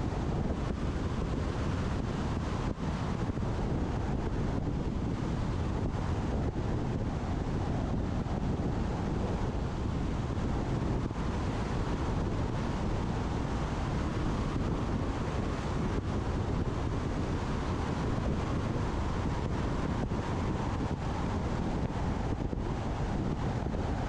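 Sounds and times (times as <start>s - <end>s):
low road noise: 0.0s - 24.0s
wind noise on microphone: 0.0s - 24.0s.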